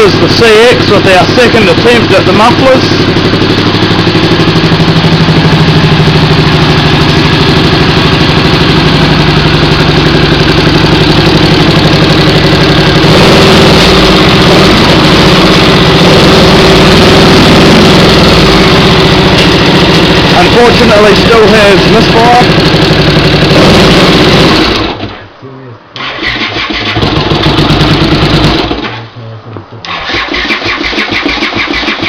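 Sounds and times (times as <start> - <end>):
motorcycle engine idling with misfire: 0.0 - 25.2, 26.0 - 29.0, 29.9 - 32.0.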